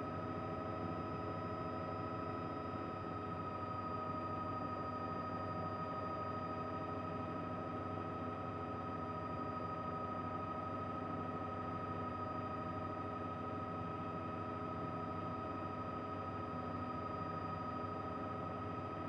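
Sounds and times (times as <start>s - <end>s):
helicopter cabin drone: 0.0s - 19.0s.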